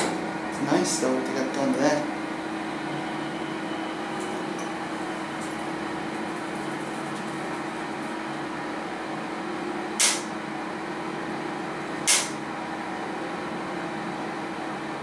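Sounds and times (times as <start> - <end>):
elevator humming: 0.0 - 15.0.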